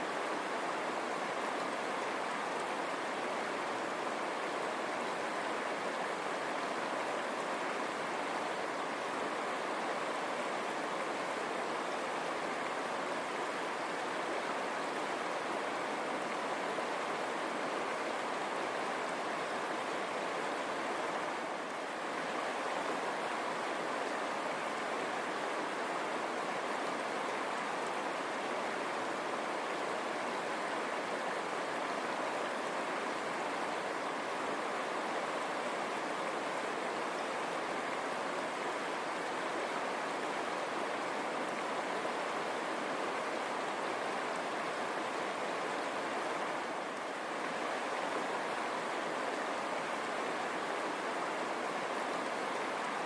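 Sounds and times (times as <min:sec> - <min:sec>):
river water over stones: 0:00.0 - 0:53.0.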